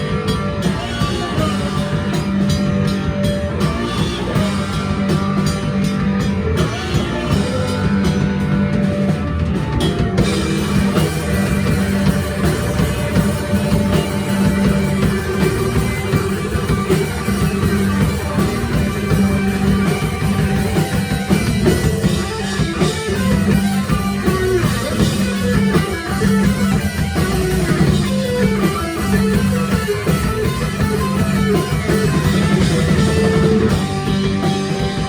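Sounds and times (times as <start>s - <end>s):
drum kit: 0.0s - 35.0s
electric guitar: 0.0s - 35.0s.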